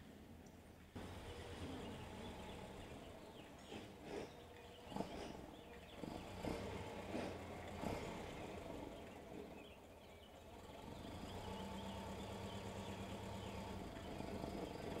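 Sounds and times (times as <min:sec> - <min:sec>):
car engine running: 0:01.0 - 0:15.0.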